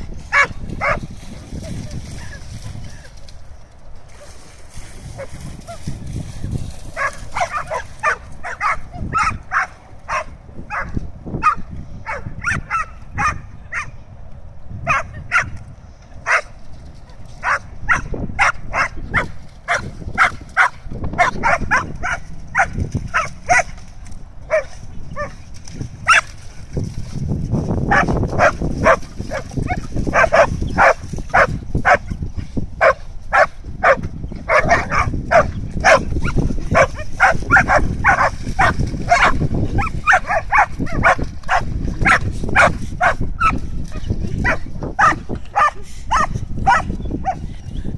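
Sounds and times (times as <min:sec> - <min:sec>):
dogs barking excitedly: 0:00.2 - 0:01.2, 0:06.8 - 0:14.0, 0:14.8 - 0:15.6, 0:16.2 - 0:26.8, 0:27.7 - 0:47.5.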